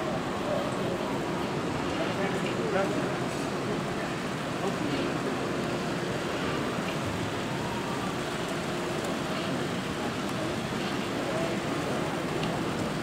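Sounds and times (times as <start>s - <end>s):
exhibition hall hubbub: 0.0s - 13.0s.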